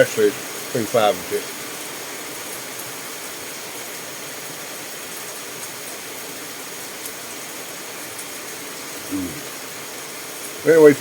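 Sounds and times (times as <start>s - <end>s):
rain on a metal roof: 0.0s - 11.0s.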